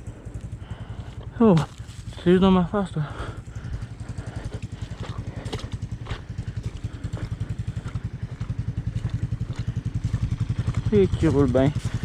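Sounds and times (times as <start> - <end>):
engine chugging at low revs: 0.0 - 12.0.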